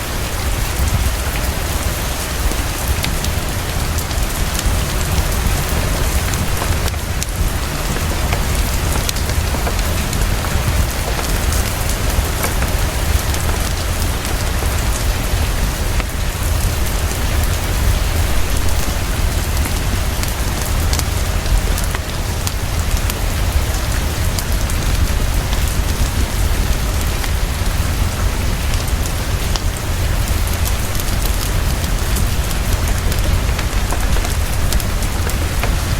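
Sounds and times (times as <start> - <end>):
heavy rainfall: 0.0 - 35.9
rain drops ticking: 0.0 - 35.9.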